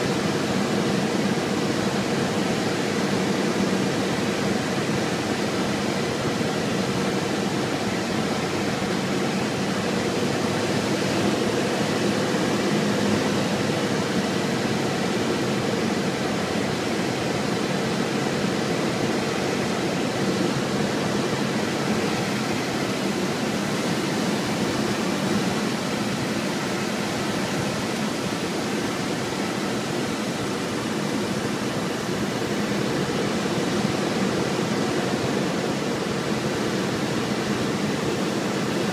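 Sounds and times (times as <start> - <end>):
airplane engine droning: 0.0 - 38.9
rushing air noise: 0.1 - 38.9.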